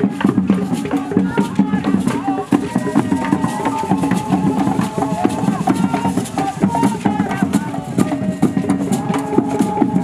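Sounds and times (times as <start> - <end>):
drumming and percussion: 0.0 - 10.0
men chanting: 0.0 - 10.0.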